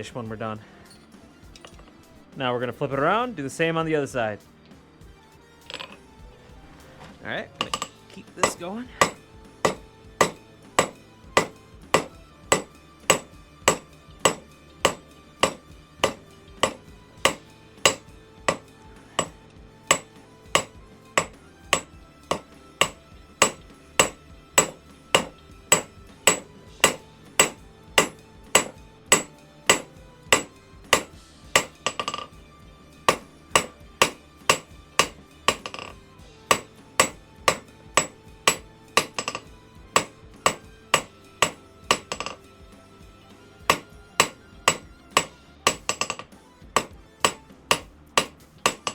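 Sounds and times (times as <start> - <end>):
hammer striking hot metal on anvil: 5.7 - 6.0, 7.6 - 32.4, 33.0 - 42.4, 43.7 - 48.9.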